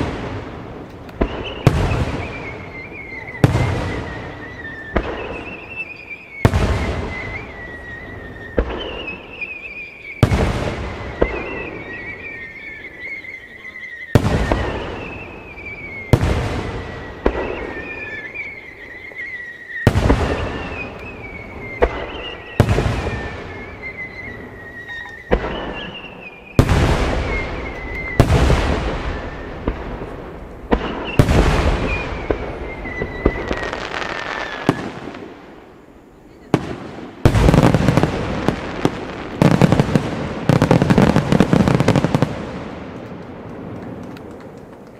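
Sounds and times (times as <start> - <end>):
fireworks booming with echo: 0.0 - 44.9.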